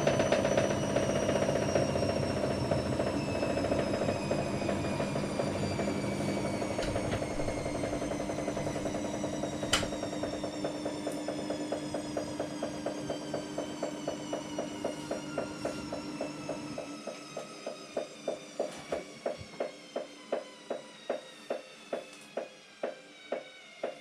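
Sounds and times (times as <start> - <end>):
washing machine motor whine: 0.0 - 24.0.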